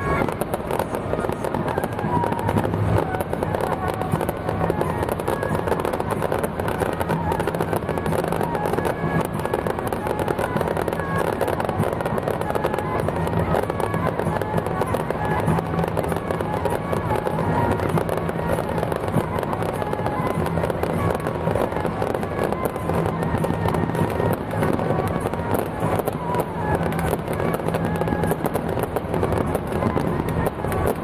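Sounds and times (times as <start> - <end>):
fireworks crackling: 0.0 - 31.0
music playing: 0.0 - 31.0.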